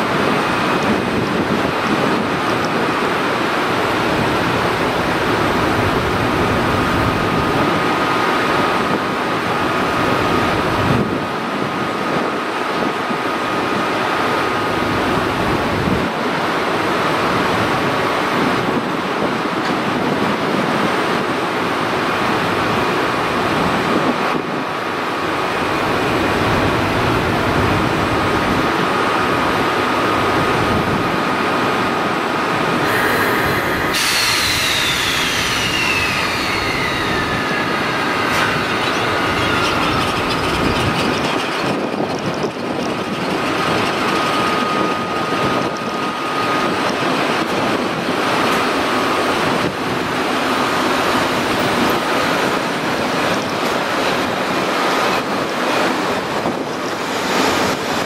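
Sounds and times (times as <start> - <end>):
electric locomotive whirring hiss: 0.0 - 58.0.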